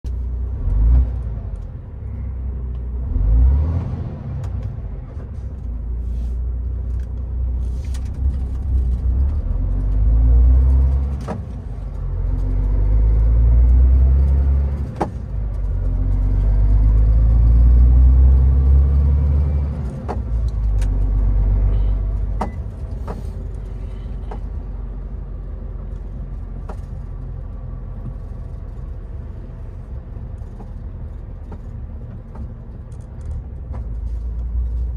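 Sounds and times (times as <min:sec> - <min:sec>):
vehicle engine accelerating: 0:00.1 - 0:34.9.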